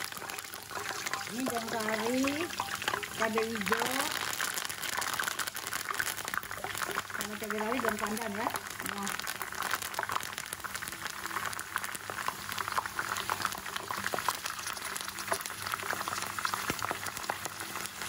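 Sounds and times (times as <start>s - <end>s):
leaves deep-frying in hot oil: 0.0s - 18.0s.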